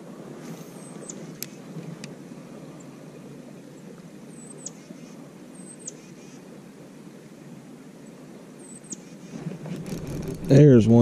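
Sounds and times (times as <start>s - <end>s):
low rushing background noise: 0.0s - 11.0s.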